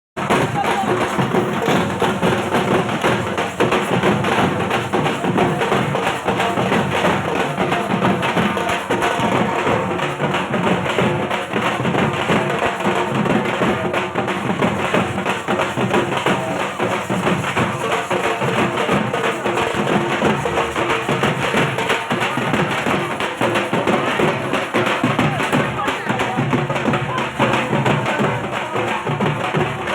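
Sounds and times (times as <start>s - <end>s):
barrel drum beaten with sticks: 0.2s - 29.9s.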